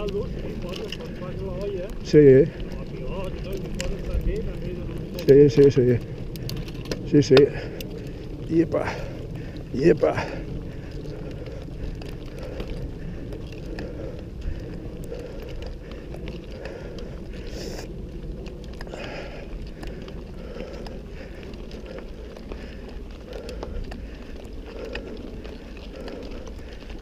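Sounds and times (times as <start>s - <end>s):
bike clicks and rattles: 0.0s - 27.0s
tyres rumbling on dirt: 0.0s - 27.0s.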